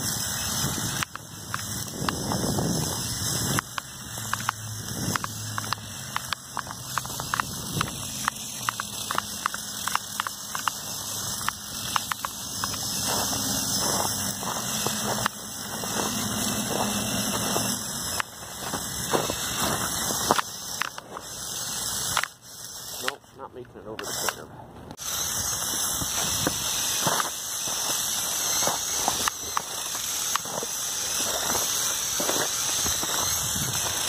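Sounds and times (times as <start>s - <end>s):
sharp clicks of tracked drive: 0.0s - 34.0s
toy motors humming: 0.0s - 34.0s.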